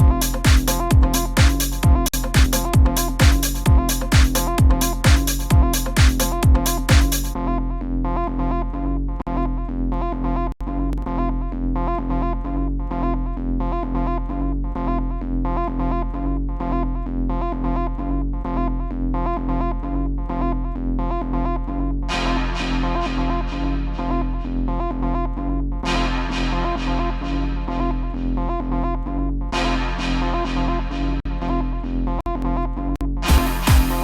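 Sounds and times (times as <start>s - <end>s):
steady low bass: 0.0s - 34.0s.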